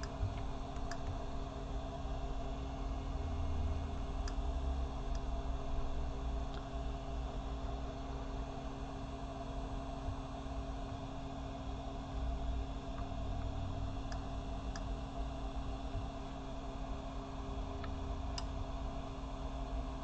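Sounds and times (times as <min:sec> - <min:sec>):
low hum and hiss: 0:00.0 - 0:20.0.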